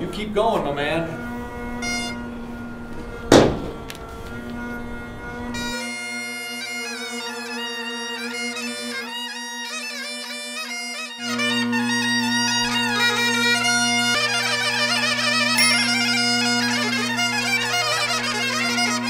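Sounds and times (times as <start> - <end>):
bagpipe drone: 0.0 - 19.0
bagpipe melody: 0.0 - 19.0.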